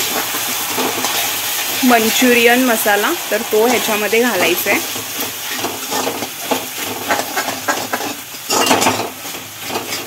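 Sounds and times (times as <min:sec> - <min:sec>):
metal ladle scraping a wok: 0:00.0 - 0:10.0
vegetables sizzling: 0:00.0 - 0:10.0.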